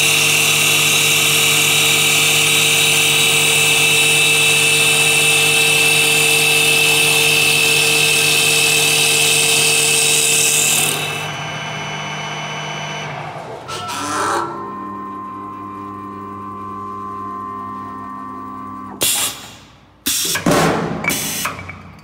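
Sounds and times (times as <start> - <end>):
lathe machine whine: 0.0 - 19.0.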